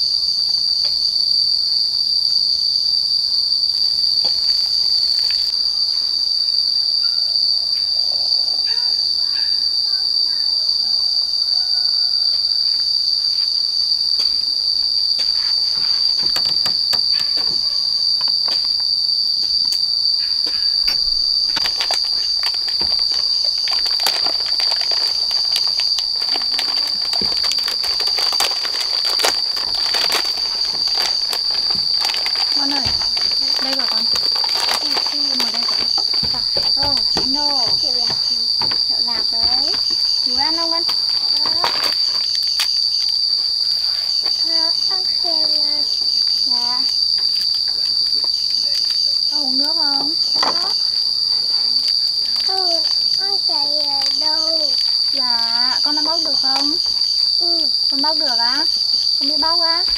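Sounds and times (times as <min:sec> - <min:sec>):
insect chorus drone: 0:00.0 - 0:59.9.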